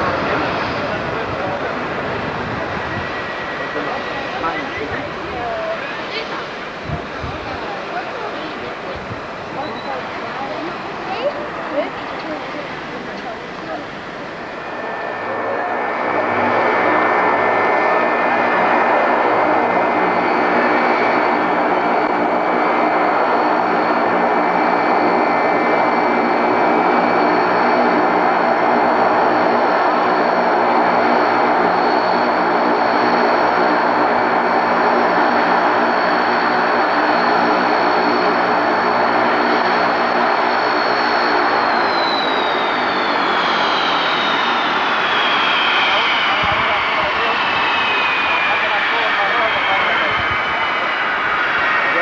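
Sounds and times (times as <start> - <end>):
turboprop engines droning: 0.0 - 52.0.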